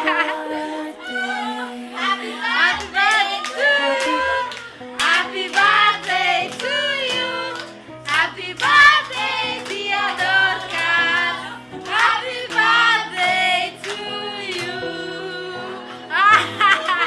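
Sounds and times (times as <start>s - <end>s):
several voices singing: 0.0s - 17.0s.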